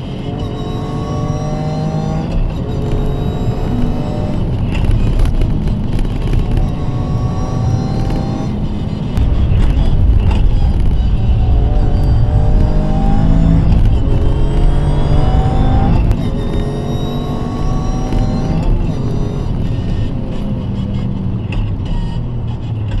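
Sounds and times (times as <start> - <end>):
car engine accelerating with upshifts: 0.0 - 23.0.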